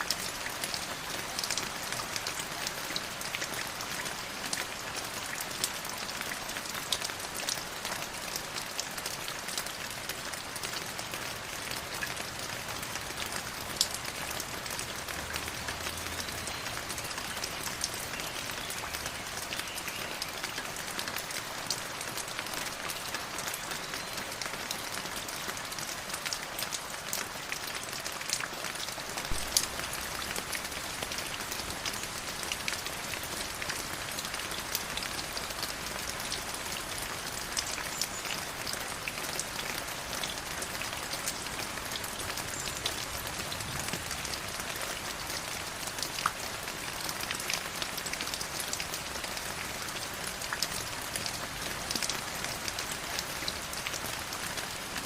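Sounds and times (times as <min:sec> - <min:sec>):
river water flowing: 0:08.0 - 0:23.0, 0:23.9 - 0:55.0.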